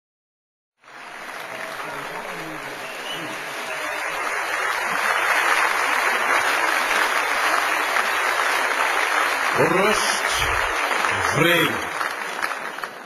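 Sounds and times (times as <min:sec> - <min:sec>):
audience applauding: 0:00.8 - 0:13.0.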